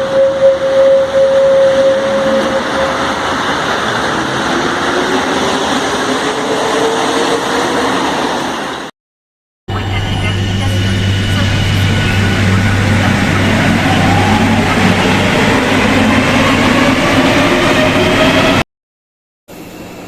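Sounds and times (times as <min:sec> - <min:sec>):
train traction motor whine: 0:00.0 - 0:07.3, 0:09.7 - 0:18.6
train running noise: 0:00.0 - 0:08.9, 0:09.7 - 0:18.6.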